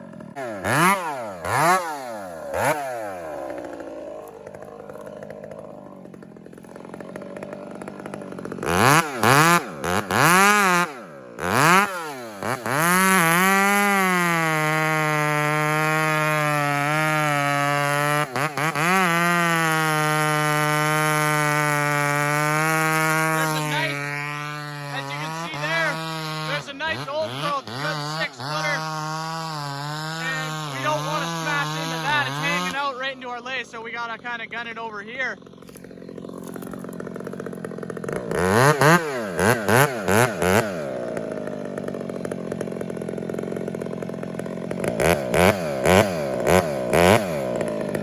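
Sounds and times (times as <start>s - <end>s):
chainsaw revving and cutting: 0.0s - 48.0s.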